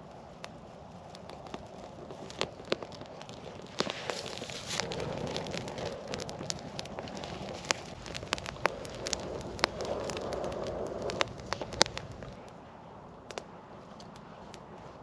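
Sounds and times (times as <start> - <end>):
fire rushing hiss: 0.0 - 12.8
campfire crackling and popping: 0.0 - 15.0.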